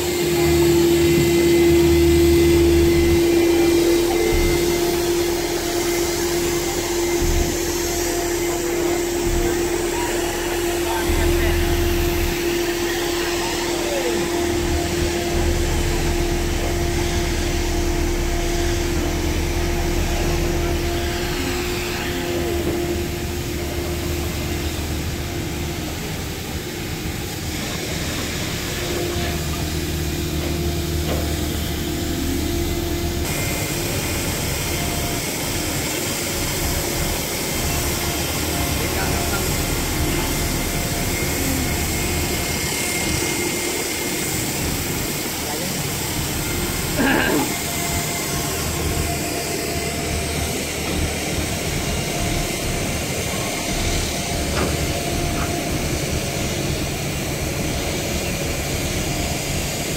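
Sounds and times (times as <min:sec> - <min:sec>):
construction machinery engine drone: 0:00.0 - 0:59.9.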